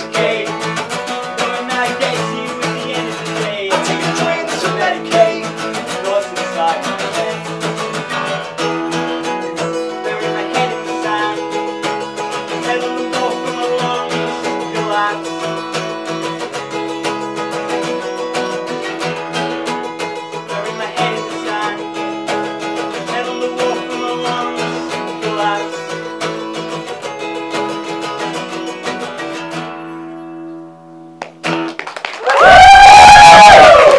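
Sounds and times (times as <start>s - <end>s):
acoustic guitars strumming: 0.0s - 32.0s.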